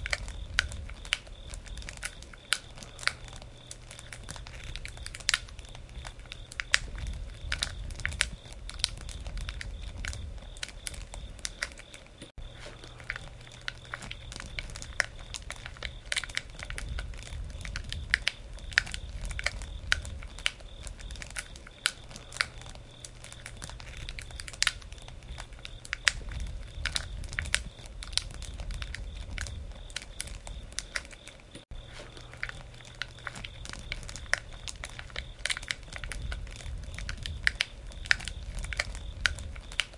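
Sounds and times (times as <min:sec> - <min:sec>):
burning wood popping: 0:00.0 - 0:39.9
campfire crackling: 0:00.0 - 0:39.9
low rumble: 0:02.7 - 0:11.4, 0:12.4 - 0:30.8, 0:31.7 - 0:39.7.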